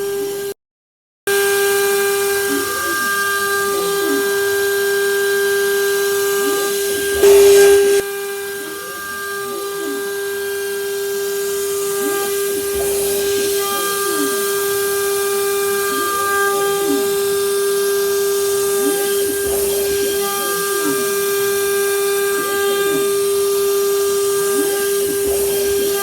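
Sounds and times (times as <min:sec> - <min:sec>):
router spindle high whine: 0:01.3 - 0:26.0
axis motors sweeping tones: 0:01.5 - 0:26.0.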